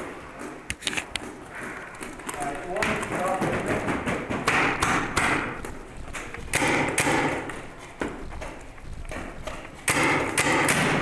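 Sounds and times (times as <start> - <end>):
paintballs striking: 0.0 - 11.0
paintball markers firing: 2.0 - 11.0.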